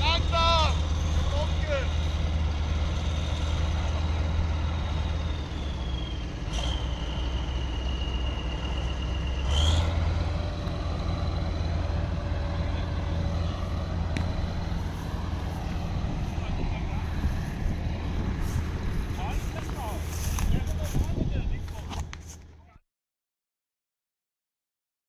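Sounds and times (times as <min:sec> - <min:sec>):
high engine whine: 0:00.0 - 0:22.7
tractor diesel engine drone: 0:00.0 - 0:22.7.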